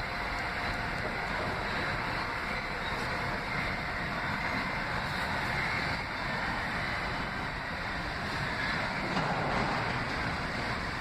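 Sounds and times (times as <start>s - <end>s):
subway train wheels on rails: 0.0s - 11.0s.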